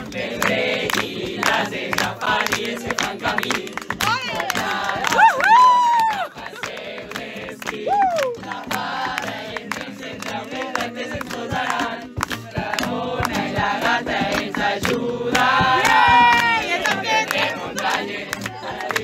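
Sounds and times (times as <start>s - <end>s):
group of young voices singing: 0.0s - 5.2s, 6.2s - 19.0s
acoustic guitar: 0.0s - 19.0s
hand-clapping: 0.0s - 19.0s.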